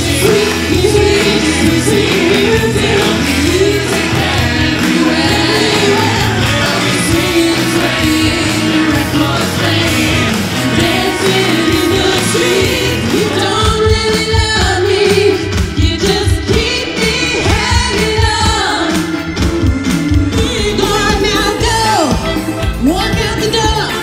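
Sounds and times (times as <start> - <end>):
disco pop music with singing: 0.0 - 24.0.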